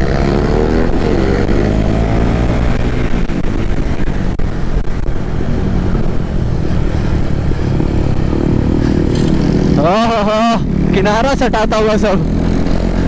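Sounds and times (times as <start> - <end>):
low wind rumble: 0.0 - 13.0
motorcycle engine running: 0.0 - 13.0.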